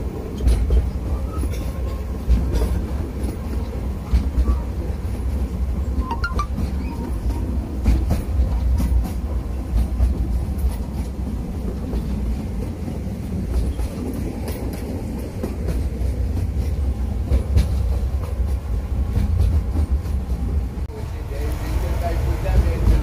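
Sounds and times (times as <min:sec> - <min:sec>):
train rumbling on track: 0:00.0 - 0:23.0
wheels clicking over rail joints: 0:00.1 - 0:20.6.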